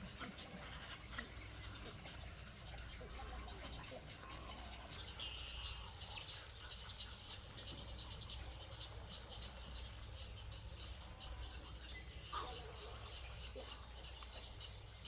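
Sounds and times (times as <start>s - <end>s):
insects droning and chirping: 2.3s - 15.0s.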